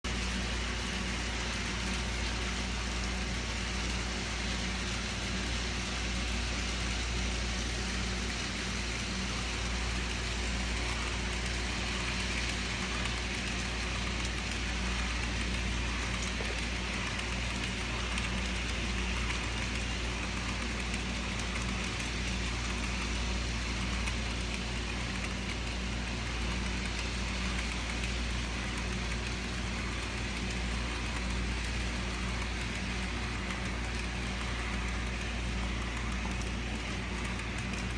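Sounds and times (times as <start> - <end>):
model train running on track: 0.1 - 37.9.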